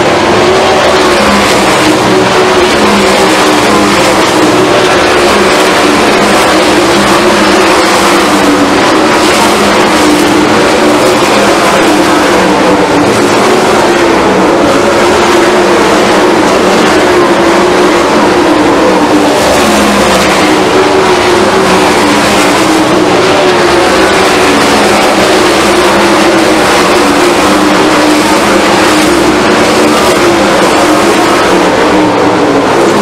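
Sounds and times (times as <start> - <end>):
race car engines at full throttle: 0.0 - 33.0.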